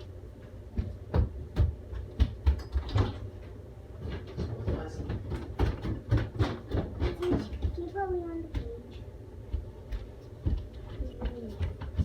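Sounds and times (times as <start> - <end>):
knocks and thumps: 0.7 - 3.3, 4.0 - 8.8, 9.5 - 12.0.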